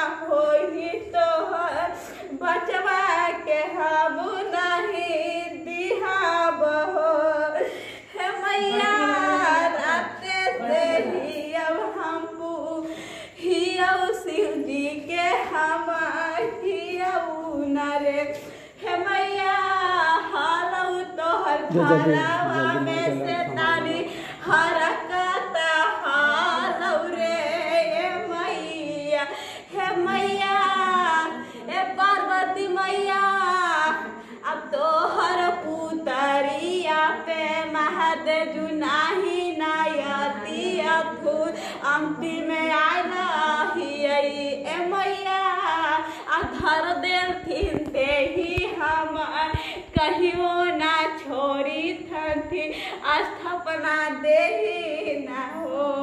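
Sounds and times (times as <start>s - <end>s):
women singing unaccompanied: 0.0s - 56.0s.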